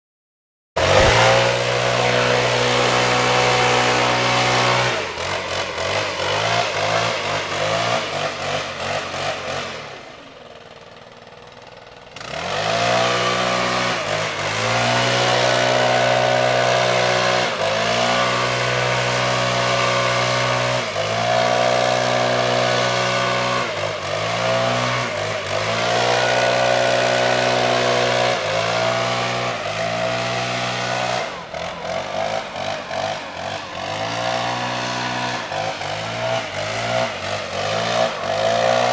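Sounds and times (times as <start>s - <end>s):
leaf blower engine: 0.8s - 38.9s.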